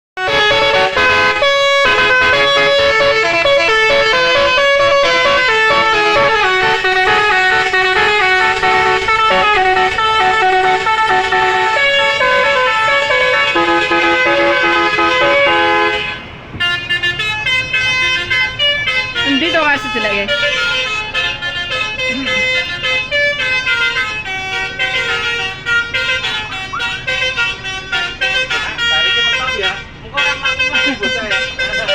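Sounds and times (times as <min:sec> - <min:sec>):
musical air horn melody: 0:00.2 - 0:31.9.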